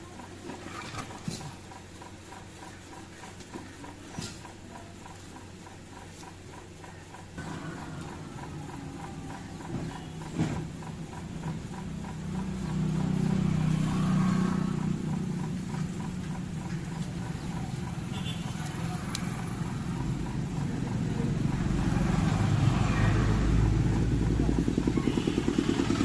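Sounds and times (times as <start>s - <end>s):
motor engine running: 0.0s - 26.0s.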